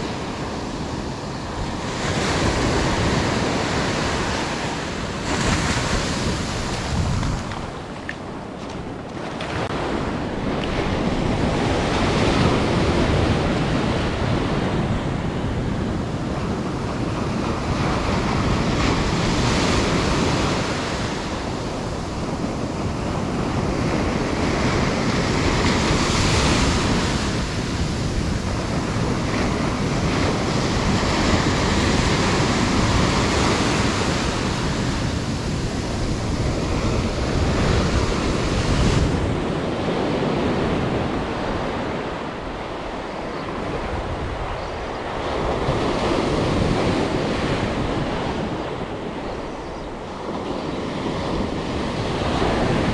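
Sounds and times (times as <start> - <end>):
waves breaking on shore: 0.0 - 52.9
wind on microphone: 0.0 - 52.9.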